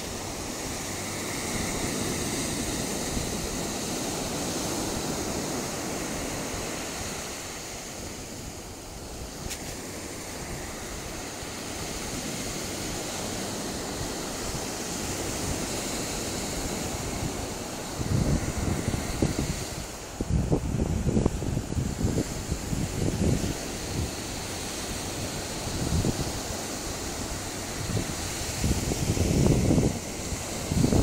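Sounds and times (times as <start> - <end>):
ocean surf washing onto beach: 0.0 - 31.0.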